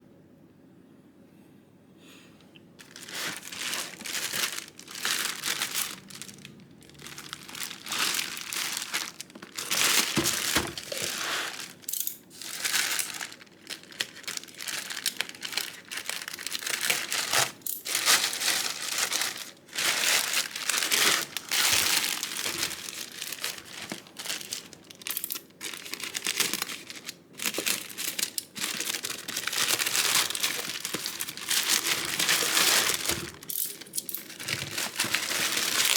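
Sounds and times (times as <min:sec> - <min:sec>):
packaging crinkling and rustling: 0:02.8 - 0:35.9.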